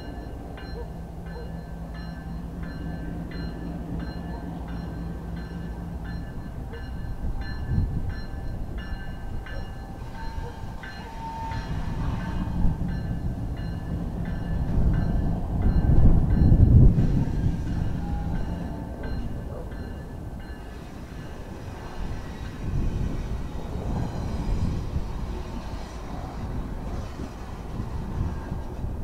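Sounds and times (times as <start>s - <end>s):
locomotive bell ringing: 0.0s - 28.9s
diesel locomotive engine running: 0.0s - 29.0s.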